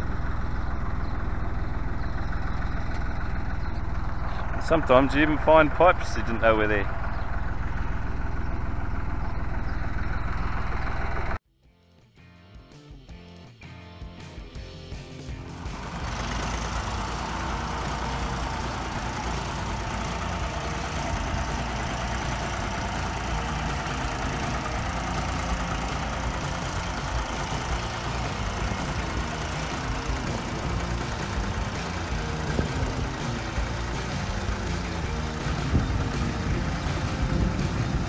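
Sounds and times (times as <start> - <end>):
tractor engine running: 0.0 - 11.4, 14.2 - 38.0.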